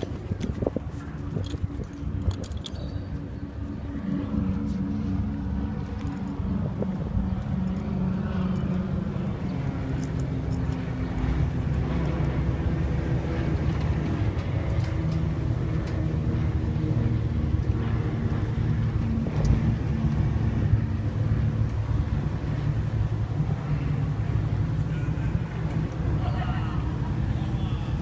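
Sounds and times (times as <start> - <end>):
ferry engines droning: 0.0 - 28.0.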